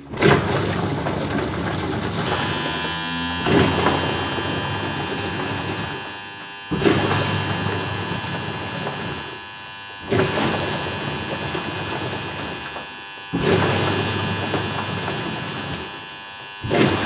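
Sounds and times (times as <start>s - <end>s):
washing machine grinding: 0.0s - 17.0s.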